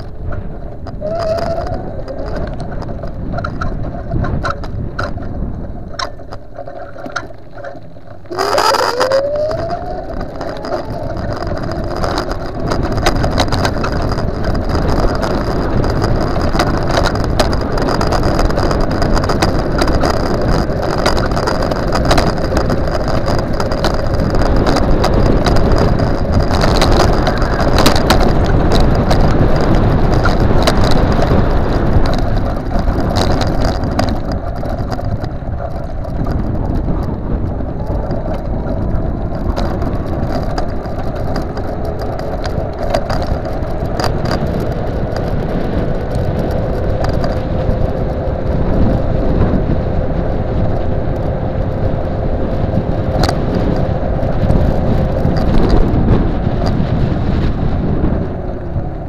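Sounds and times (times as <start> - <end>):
rattling and clicking: 0.0 - 58.9
scooter wheels rumbling: 0.0 - 59.0
wind: 0.0 - 59.0.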